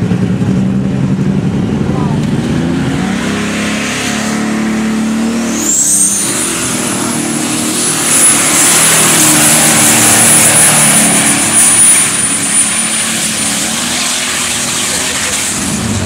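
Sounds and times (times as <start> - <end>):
high engine whine: 0.0 - 16.0
tractor engine running hard: 0.0 - 16.0.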